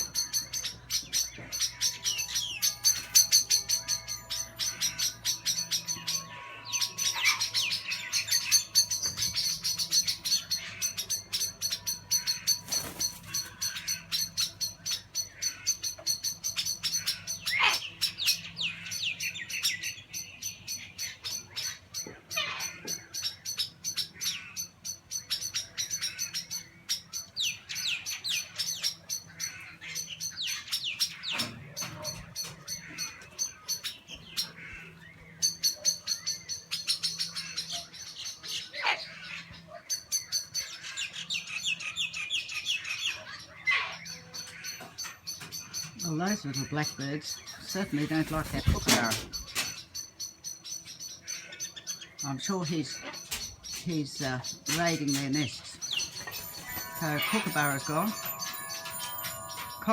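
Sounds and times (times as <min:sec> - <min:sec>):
harsh bird alarm calls: 0:00.0 - 0:59.9
small birds chirping rapidly: 0:00.0 - 0:59.9.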